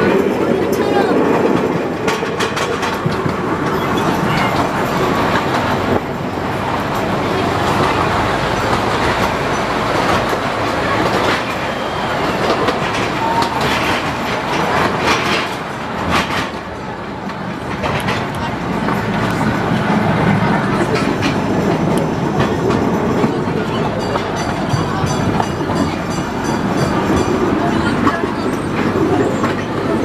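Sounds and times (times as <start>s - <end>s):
track clicks and clacks: 0.0s - 30.0s
train wheels rumbling on rail: 0.0s - 30.0s.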